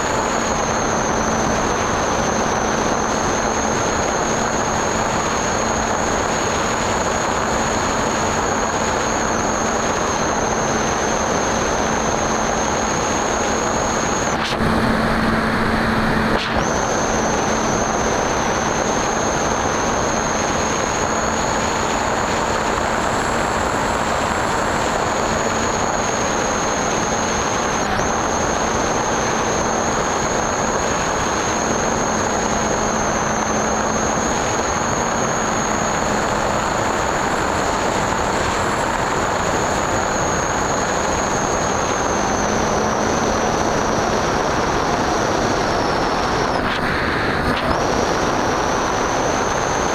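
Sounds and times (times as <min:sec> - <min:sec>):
electric motor and propeller whine: 0:00.0 - 0:49.9.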